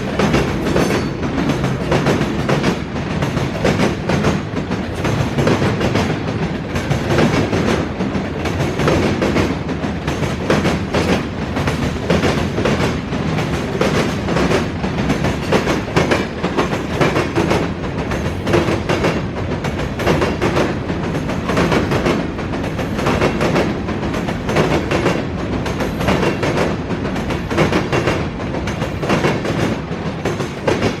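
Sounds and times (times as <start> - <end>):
train wheels clacking over rail joints: 0.0 - 31.0.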